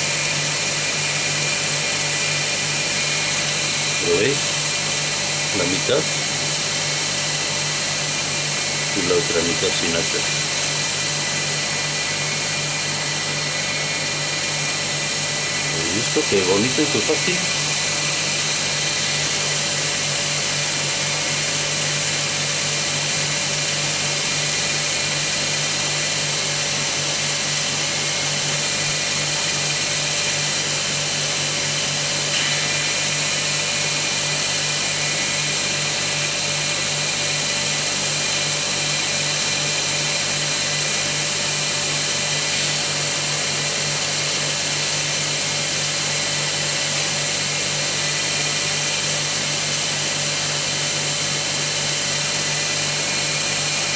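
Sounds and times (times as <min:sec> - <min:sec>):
motor humming: 0:00.0 - 0:45.0, 0:47.3 - 0:53.9.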